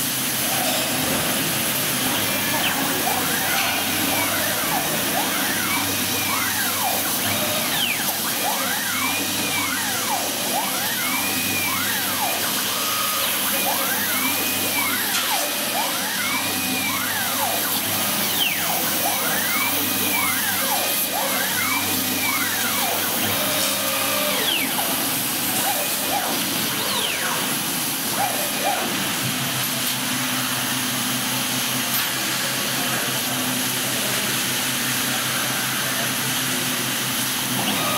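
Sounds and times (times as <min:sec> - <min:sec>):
laser cutter motors whining: 0:00.0 - 0:37.9.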